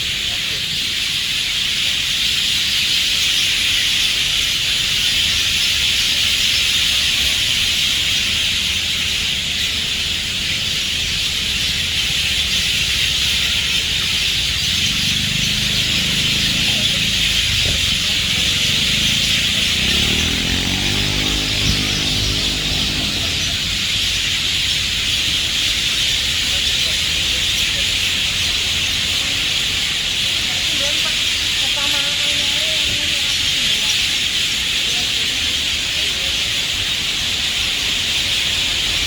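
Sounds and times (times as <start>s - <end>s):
shrill wildlife chorus: 0.0s - 39.0s.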